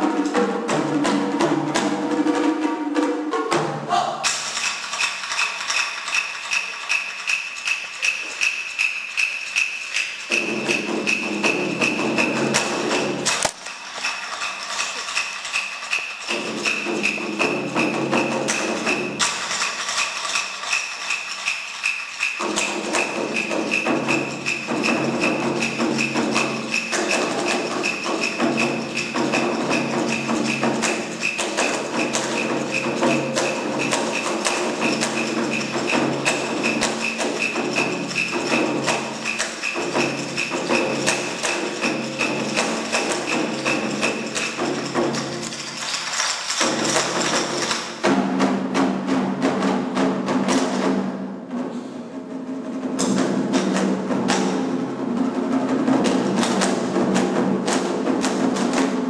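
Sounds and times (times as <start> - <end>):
rapid barrel drum strokes: 0.0 - 59.0.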